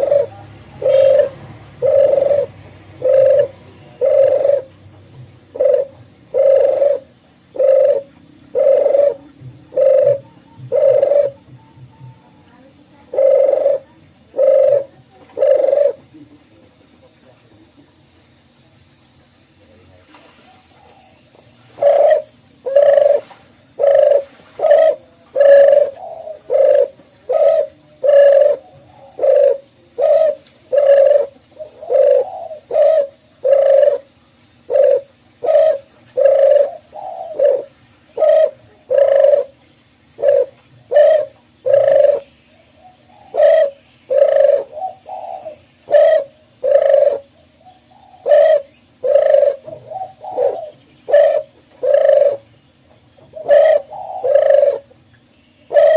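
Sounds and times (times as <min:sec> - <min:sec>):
dove cooing: 0:00.0 - 0:16.2, 0:20.4 - 0:55.9
faint high whine: 0:00.0 - 0:55.9.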